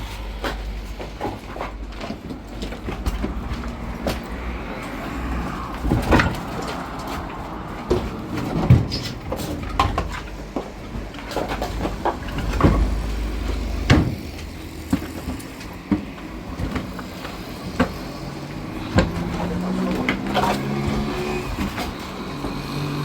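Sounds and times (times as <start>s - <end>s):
sharp knocks and clatters: 0.1s - 23.0s.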